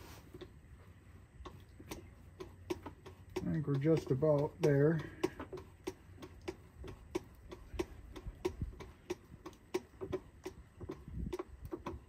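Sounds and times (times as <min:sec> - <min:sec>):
hand pump clicking: 0:01.4 - 0:12.0.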